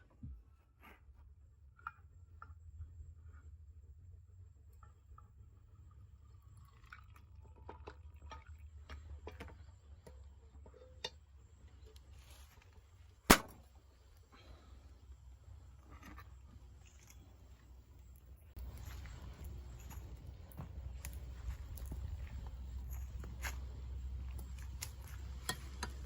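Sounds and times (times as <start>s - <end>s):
low steady rumble: 1.2s - 26.0s.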